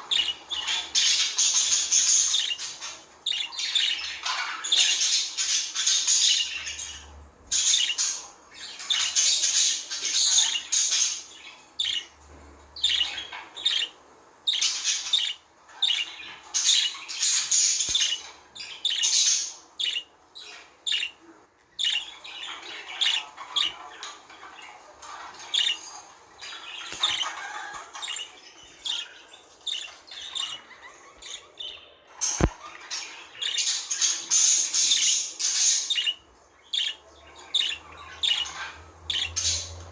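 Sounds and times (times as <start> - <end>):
budgerigars chattering and chirping: 0.0 - 12.2, 12.8 - 39.9.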